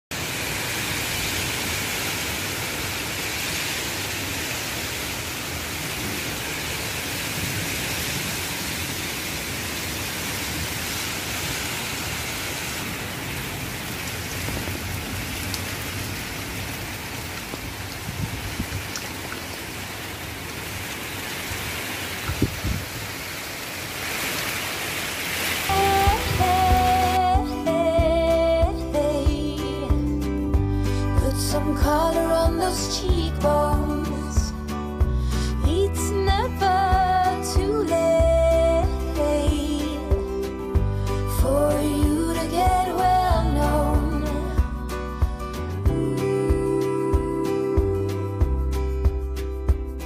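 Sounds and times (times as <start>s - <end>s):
heavy rain pouring off roof: 0.0s - 48.6s.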